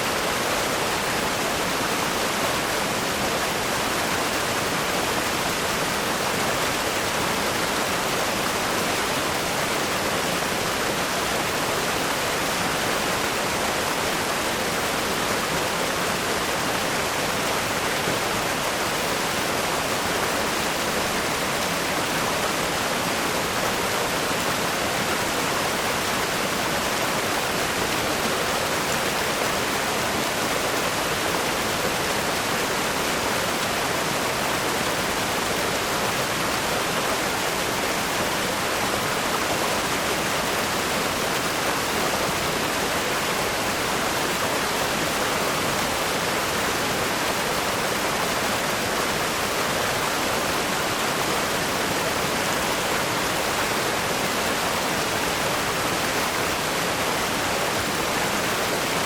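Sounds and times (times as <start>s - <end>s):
river rapids rushing over rocks: 0.0s - 59.0s.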